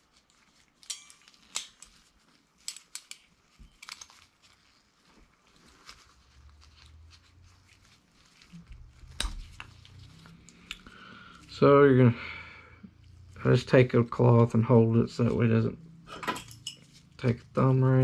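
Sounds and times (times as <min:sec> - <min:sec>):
cloth rustling: 0:00.0 - 0:11.6, 0:12.9 - 0:18.0.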